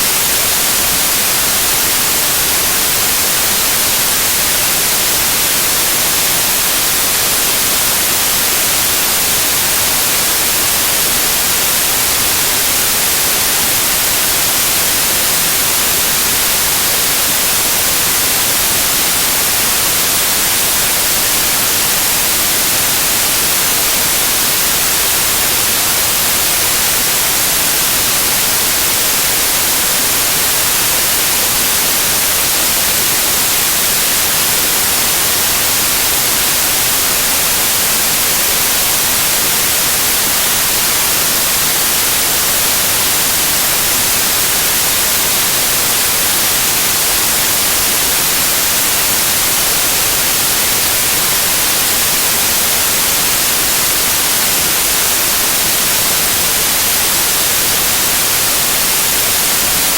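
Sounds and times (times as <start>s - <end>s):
loud white noise hiss: 0.0s - 59.9s.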